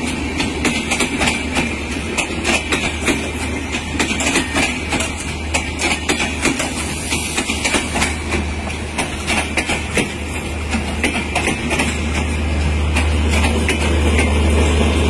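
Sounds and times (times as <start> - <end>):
wheels clattering over rail joints: 0.0 - 6.8, 7.4 - 15.0.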